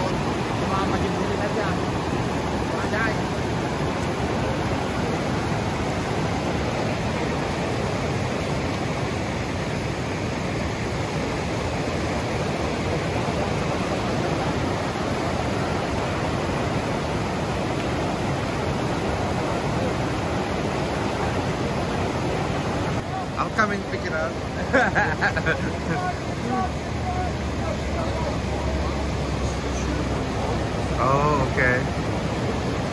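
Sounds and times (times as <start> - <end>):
river rapids rushing over boulders: 0.0 - 32.9.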